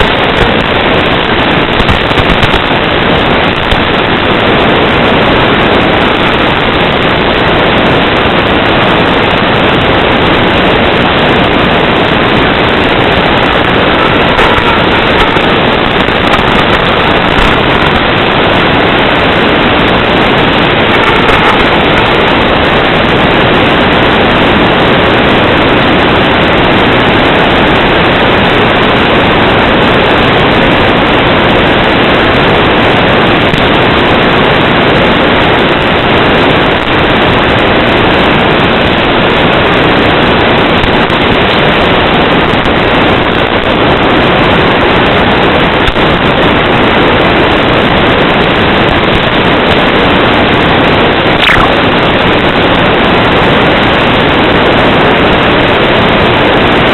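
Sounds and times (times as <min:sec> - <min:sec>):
loud static hiss: 0:00.0 - 0:56.9.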